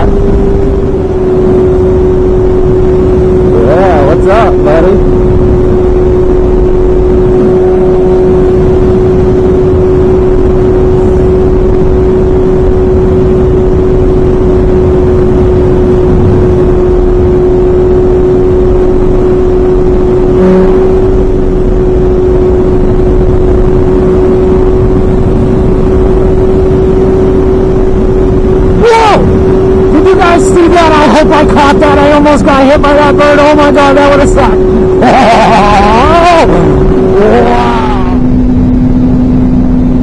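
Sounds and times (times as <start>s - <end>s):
motorcycle engine at high revs: 0.0s - 40.0s
wind rush on microphone: 0.0s - 40.0s.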